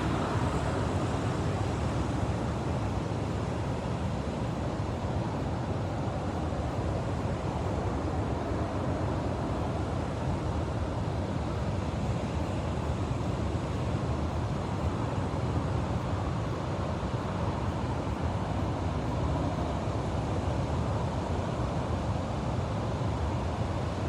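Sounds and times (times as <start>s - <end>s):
ocean surf roar: 0.0s - 19.5s
wind: 0.0s - 24.0s.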